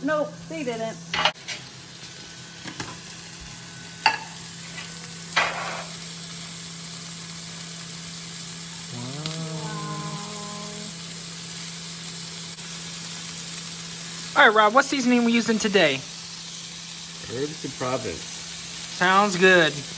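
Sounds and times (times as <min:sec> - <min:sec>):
food sizzling in a frying pan: 0:00.0 - 0:19.9.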